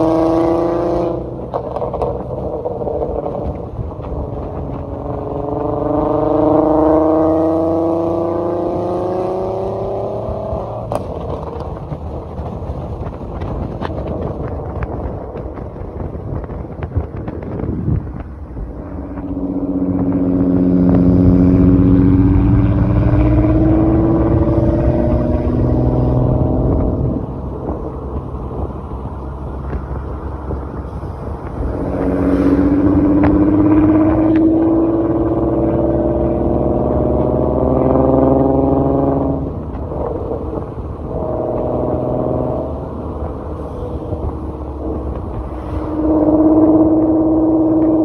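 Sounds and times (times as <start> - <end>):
car engine revving: 0.0 - 17.4, 18.1 - 48.0.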